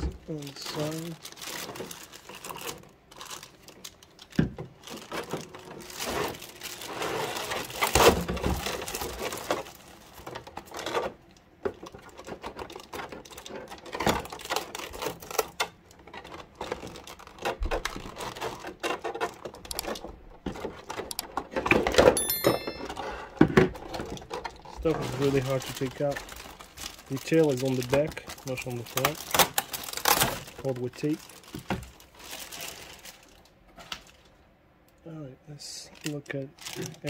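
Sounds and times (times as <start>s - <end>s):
plastic packaging crinkling: 0.2s - 21.3s, 23.7s - 34.4s, 35.9s - 37.0s.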